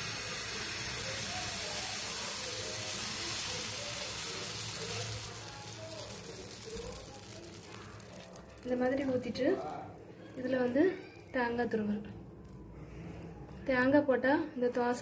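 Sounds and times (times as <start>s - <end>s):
batter sizzling on a hot griddle: 0.0s - 13.3s.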